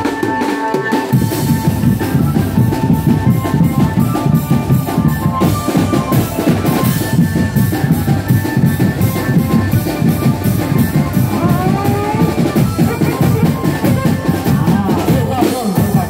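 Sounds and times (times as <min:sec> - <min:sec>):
high melody line: 0:00.0 - 0:15.9
fast drum beat: 0:00.0 - 0:16.0.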